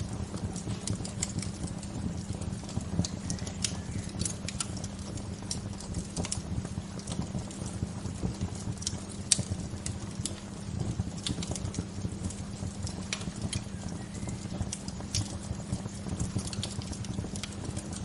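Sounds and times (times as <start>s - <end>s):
low fire rumble: 0.0s - 18.0s
wood fire pops and snaps: 0.0s - 18.0s.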